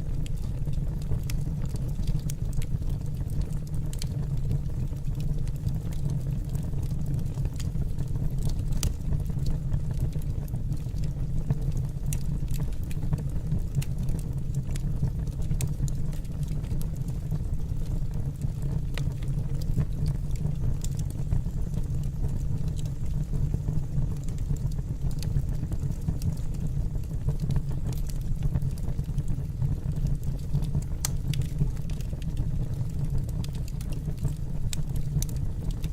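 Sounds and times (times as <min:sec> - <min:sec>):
fire crackles and pops: 0:00.0 - 0:35.9
fire flames rumbling: 0:00.0 - 0:35.9.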